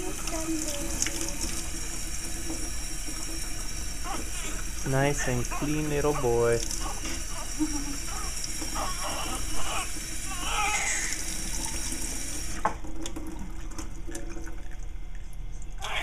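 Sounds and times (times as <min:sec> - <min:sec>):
faucet water running and splashing: 0:00.0 - 0:15.2.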